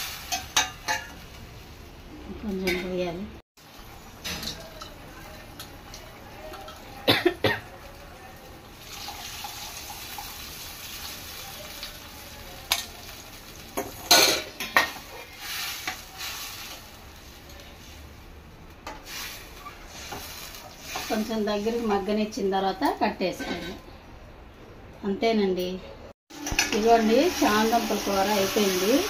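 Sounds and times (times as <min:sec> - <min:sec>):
pan sizzling: 0:00.0 - 0:07.0, 0:07.9 - 0:23.8, 0:26.3 - 0:29.0.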